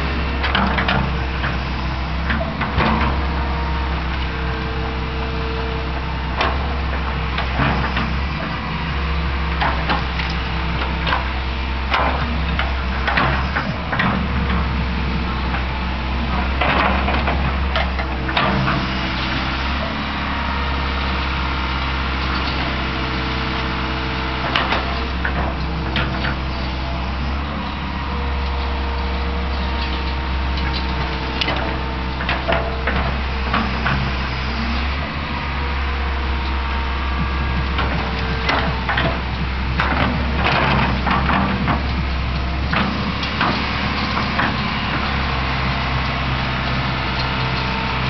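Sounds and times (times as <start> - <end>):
excavator diesel engine: 0.0 - 48.0.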